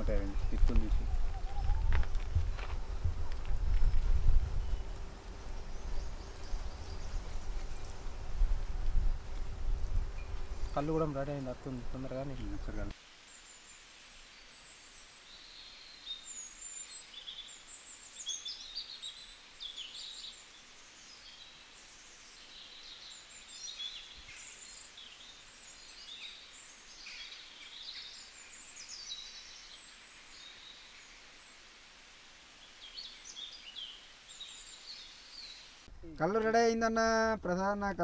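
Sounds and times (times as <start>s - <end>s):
small birds chirping: 0.0s - 35.9s
faint outdoor hiss: 0.0s - 38.0s.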